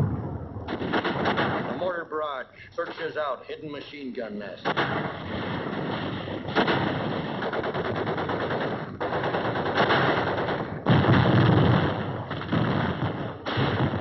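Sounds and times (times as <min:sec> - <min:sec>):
rapid machine-gun fire: 0:00.0 - 0:01.9, 0:04.6 - 0:14.0
mortar blasts: 0:00.0 - 0:02.0, 0:04.6 - 0:14.0.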